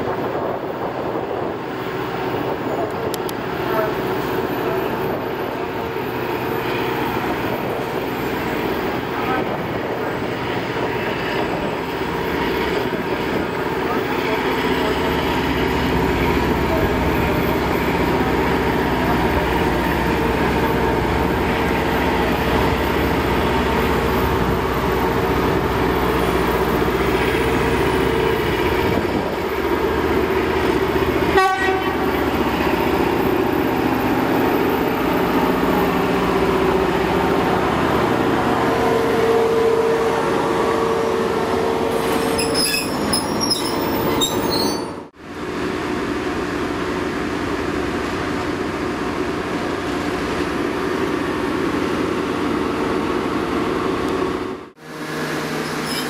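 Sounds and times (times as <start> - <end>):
train running past: 0.0 - 56.0.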